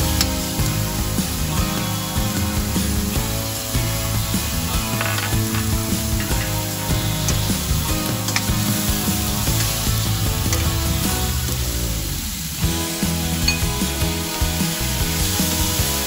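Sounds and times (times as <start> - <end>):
background music: 0.0 - 16.0
onion sizzling in hot oil: 0.0 - 16.0.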